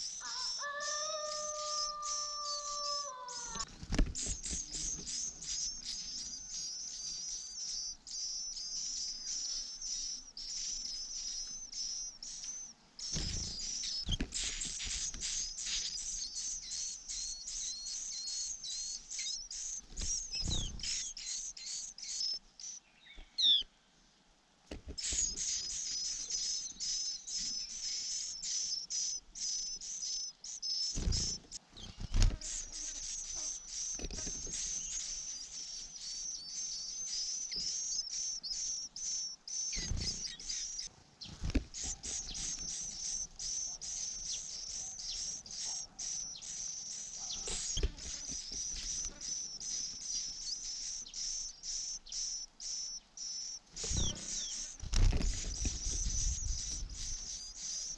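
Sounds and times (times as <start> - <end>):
nestlings begging chirps: 0.0 - 23.7, 24.9 - 57.9.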